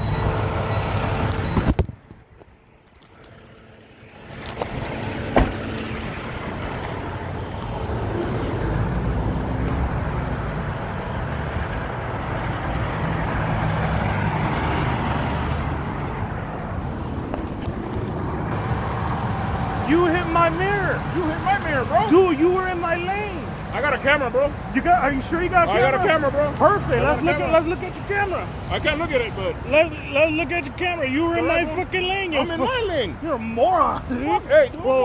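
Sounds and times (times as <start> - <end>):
freeway traffic rumble: 0.0 - 35.0
truck engines rumbling: 0.0 - 35.0.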